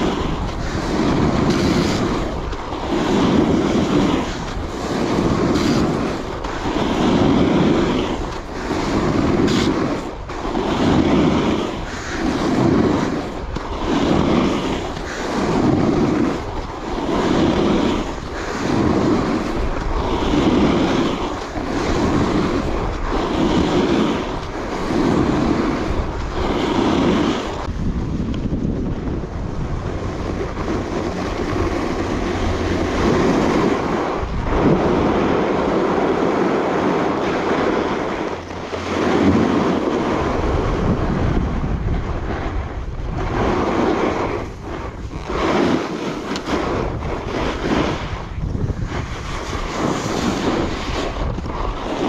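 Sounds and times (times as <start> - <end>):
snowboard edge scraping snow: 0.0 - 52.0
wind on microphone: 0.0 - 52.0.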